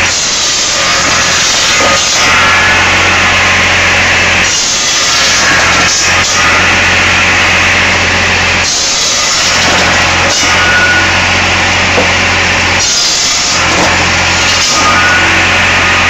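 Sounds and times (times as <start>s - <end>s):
motor hum: 0.0s - 16.0s
saw cutting logs: 0.0s - 16.0s.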